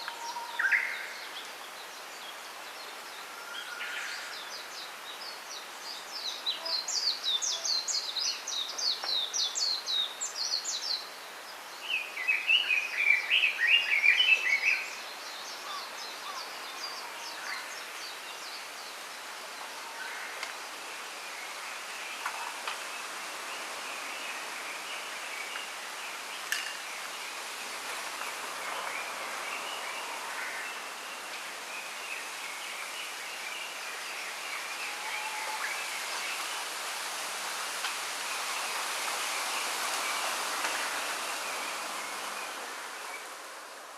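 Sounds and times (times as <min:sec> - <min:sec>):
wind through bamboo leaves: 0:00.0 - 0:43.9.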